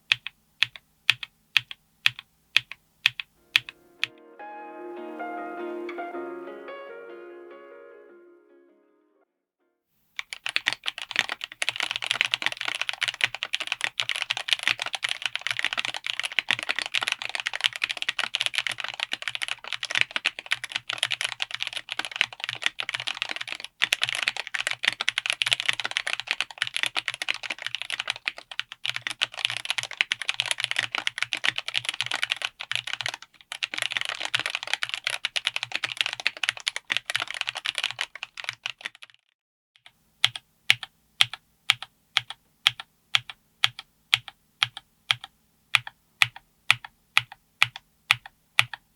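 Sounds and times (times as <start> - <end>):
fast mechanical keyboard typing: 0.0 - 3.8, 10.2 - 39.2, 39.8 - 48.9.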